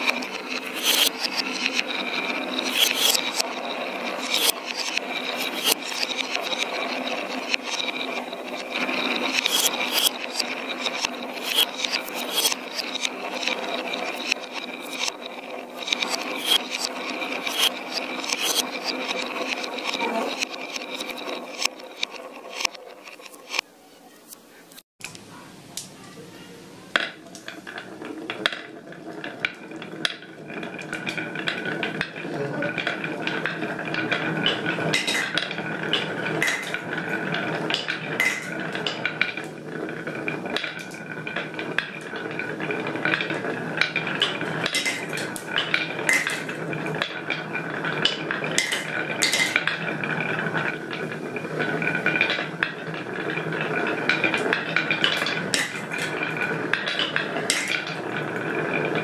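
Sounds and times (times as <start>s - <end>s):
marbles rattling in wooden channel: 0.0s - 23.7s, 26.9s - 59.0s.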